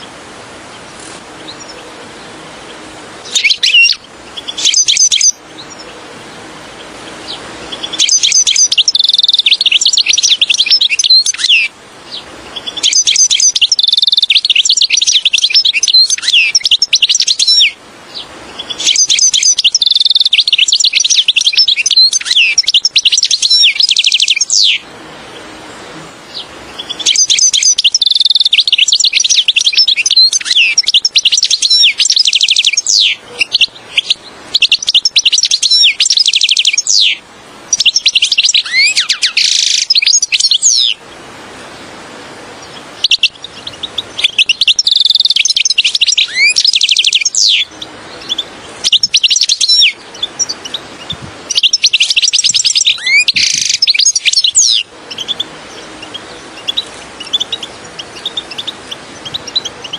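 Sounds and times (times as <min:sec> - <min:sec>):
goldfinch twittering song: 0:00.7 - 0:06.0, 0:06.7 - 0:25.4, 0:26.3 - 0:41.0, 0:42.6 - 0:59.9.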